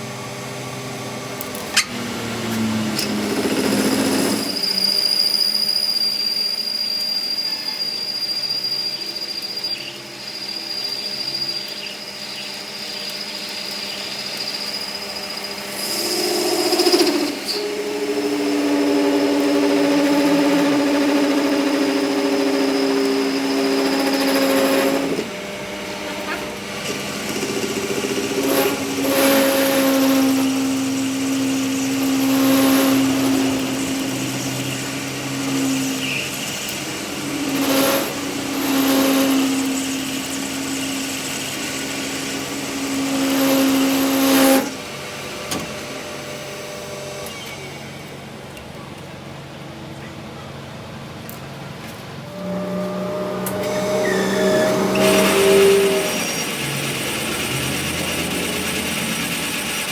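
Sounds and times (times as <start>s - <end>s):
power tool motor humming: 0.0s - 5.3s, 8.7s - 48.5s, 52.2s - 59.9s.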